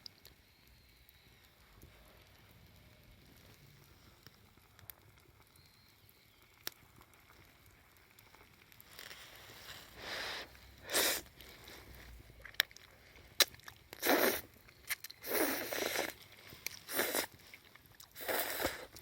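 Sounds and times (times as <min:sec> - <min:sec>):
campfire crackling and popping: 0:00.0 - 0:19.0
fire hissing: 0:00.1 - 0:19.0.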